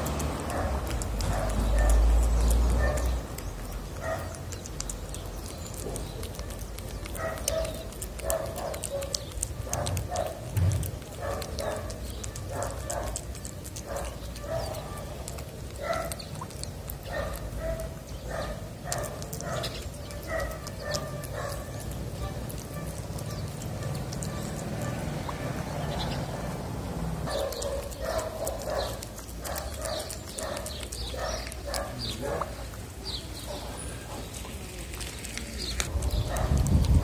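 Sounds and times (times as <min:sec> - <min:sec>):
cat chewing wet food: 0:00.0 - 0:37.0.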